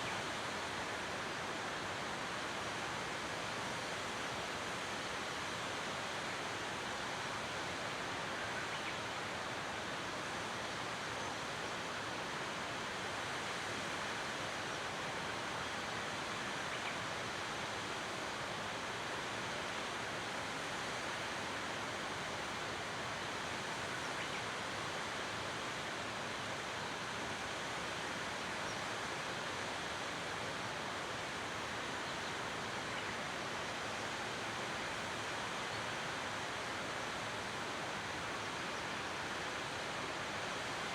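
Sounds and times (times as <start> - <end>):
waterfall: 0.0 - 40.9.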